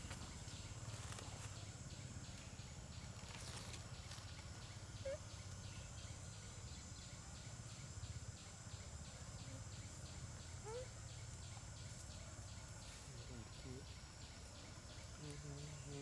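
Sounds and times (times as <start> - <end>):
insect drone pulsing: 0.0 - 16.0.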